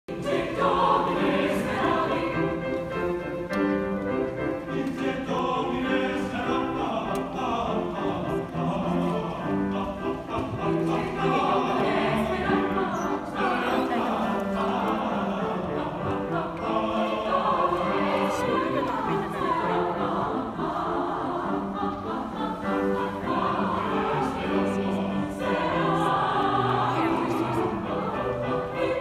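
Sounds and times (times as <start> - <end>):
mixed choir singing: 0.0 - 29.0
grand piano accompaniment: 0.1 - 29.0.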